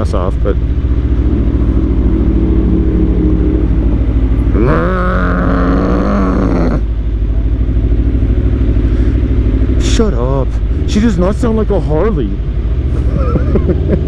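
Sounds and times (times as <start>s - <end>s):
high engine note rising: 0.0s - 11.8s
motorcycle engine throbbing: 0.0s - 14.0s.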